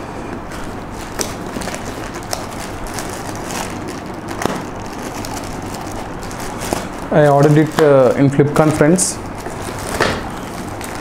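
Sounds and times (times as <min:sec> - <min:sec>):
packaging clicks and rustles: 0:00.5 - 0:11.0.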